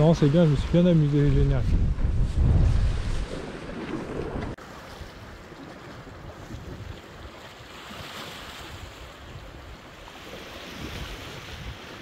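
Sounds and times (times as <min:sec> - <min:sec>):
wind buffeting microphone: 0:00.0 - 0:04.6, 0:05.8 - 0:07.5, 0:08.6 - 0:12.0
sea surf on rocks: 0:00.0 - 0:12.0.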